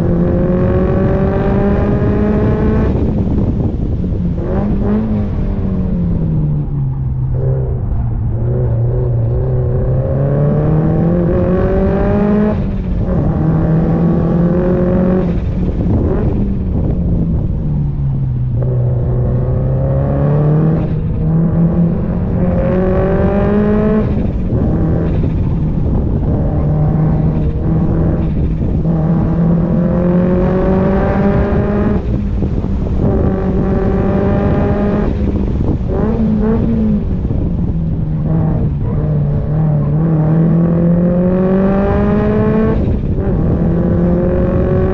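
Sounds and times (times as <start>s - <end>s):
car engine accelerating through gears: 0.0s - 44.9s.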